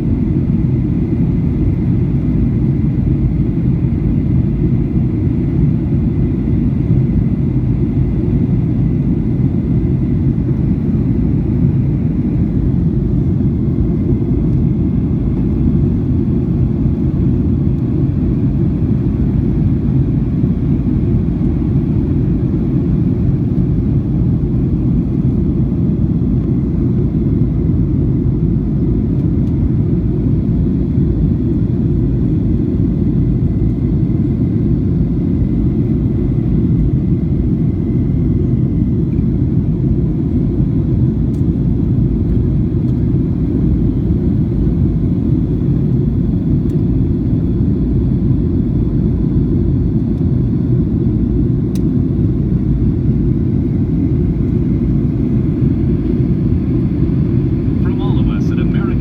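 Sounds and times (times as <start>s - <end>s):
jet engine and airflow rumble: 0.0s - 59.0s.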